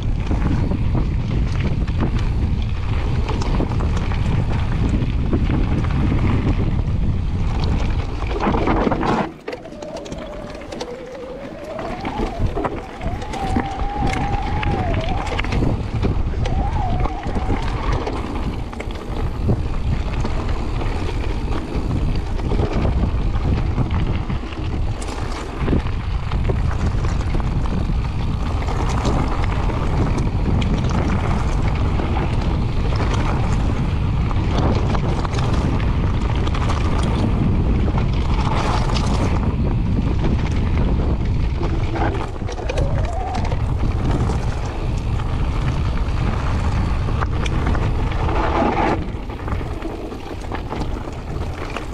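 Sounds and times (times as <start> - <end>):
bike tyres rumbling on stones: 0.0 - 51.9
wind buffeting microphone: 0.0 - 51.9.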